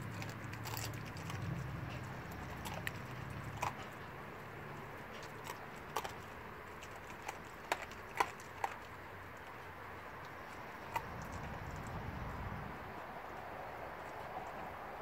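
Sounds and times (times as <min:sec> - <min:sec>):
dog licking and smacking chops: 0:00.0 - 0:15.0
low background rumble: 0:00.0 - 0:15.0.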